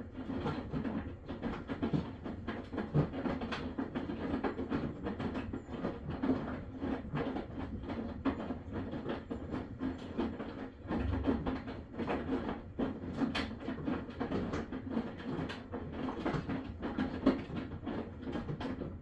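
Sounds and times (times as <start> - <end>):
washing machine knocking and rattling: 0.0 - 19.0
washing machine low hum: 0.0 - 19.0.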